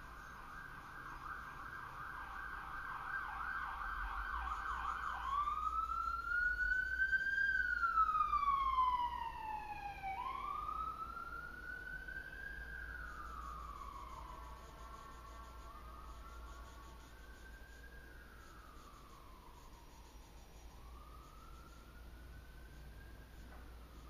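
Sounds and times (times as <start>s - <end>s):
emergency vehicle siren: 0.0s - 24.0s.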